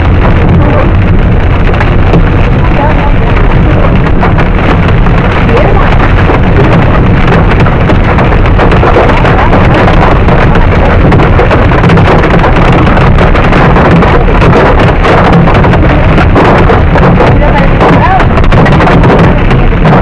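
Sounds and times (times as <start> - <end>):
hail drumming on car roof: 0.0 - 20.0.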